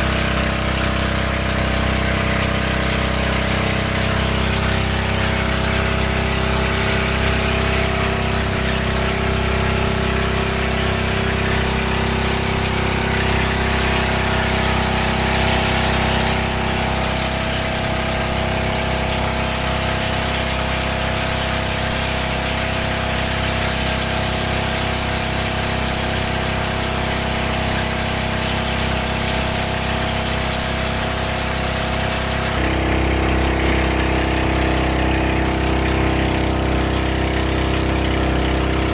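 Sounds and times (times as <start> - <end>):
water hiss: 0.0 - 38.8
boat engine droning: 0.0 - 38.9.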